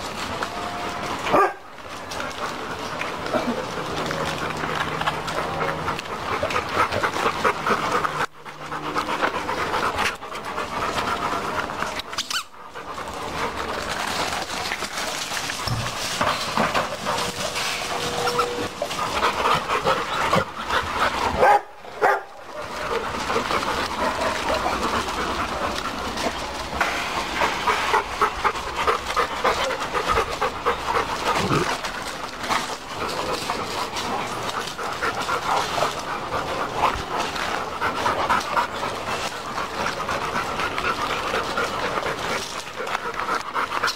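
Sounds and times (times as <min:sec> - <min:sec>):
dogs panting: 0:00.0 - 0:43.9
paws scuffing on gravel: 0:00.0 - 0:43.9.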